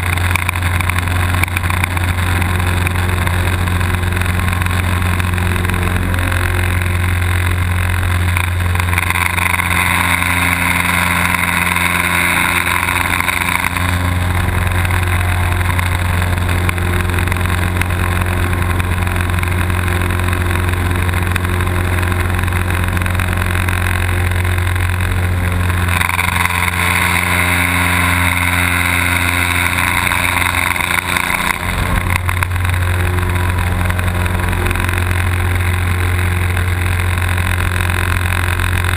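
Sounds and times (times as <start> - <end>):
plane engine droning: 0.0 - 38.9.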